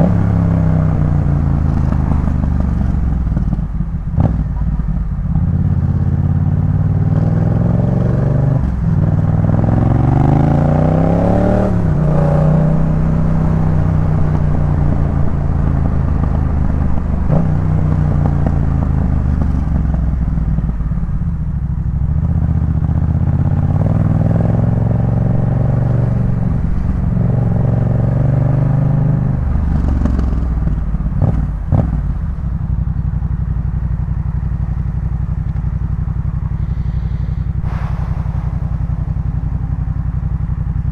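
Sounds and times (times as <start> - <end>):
motorcycle engine revving: 0.0 - 20.9, 22.0 - 40.9.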